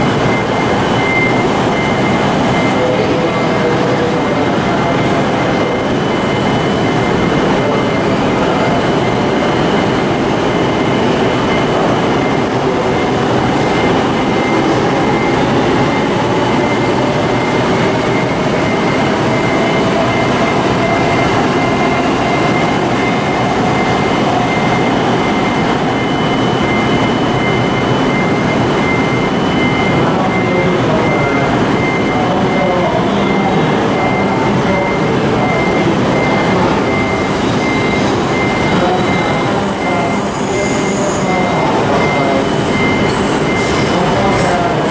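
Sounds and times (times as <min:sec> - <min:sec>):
high pulsing tone: 0:00.0 - 0:44.9.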